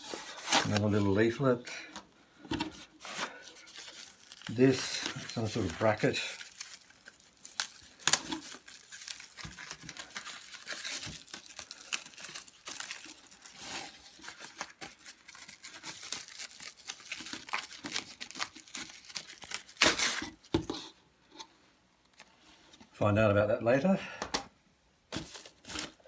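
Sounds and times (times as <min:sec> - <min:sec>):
packaging crinkling and rustling: 0:00.0 - 0:20.9, 0:25.1 - 0:26.0.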